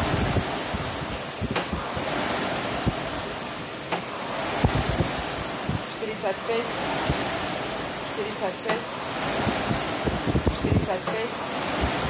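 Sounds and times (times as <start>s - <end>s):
rowing machine flywheel whooshing: 0.0s - 12.0s.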